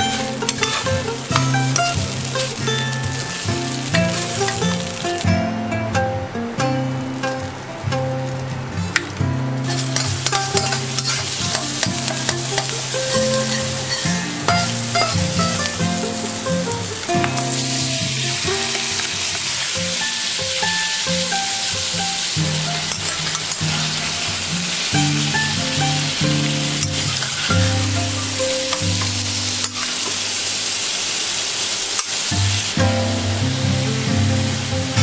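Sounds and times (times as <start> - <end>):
chicken sizzling in hot oil: 0.0 - 5.3, 8.2 - 35.0.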